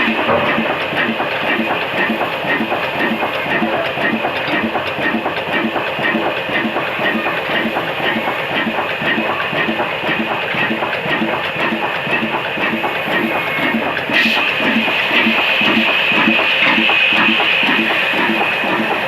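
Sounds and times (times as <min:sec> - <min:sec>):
diesel engine running rhythmically: 0:00.0 - 0:19.0.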